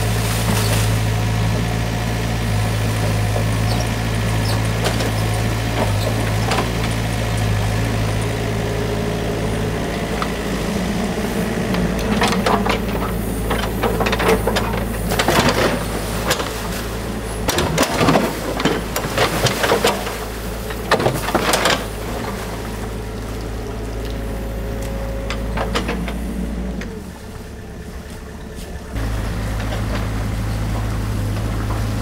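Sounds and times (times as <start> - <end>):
excavator engine running: 0.0 - 32.0.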